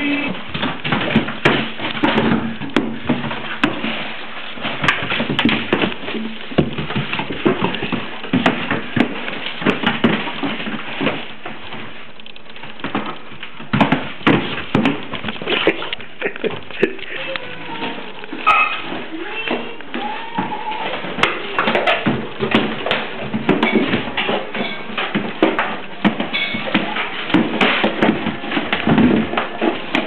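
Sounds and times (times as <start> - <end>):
box knocks and thumps: 0.0 - 11.9, 12.8 - 15.8, 20.4 - 30.0.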